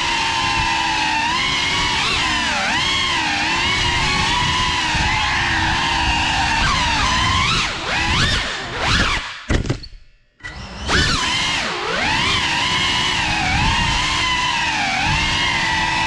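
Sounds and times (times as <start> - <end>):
drone propellers whining: 0.0 - 9.8, 10.4 - 16.0.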